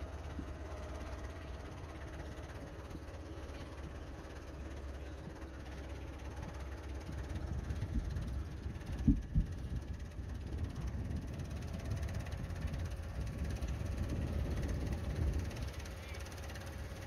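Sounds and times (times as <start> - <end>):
forklift engine rumbling: 0.0 - 17.0.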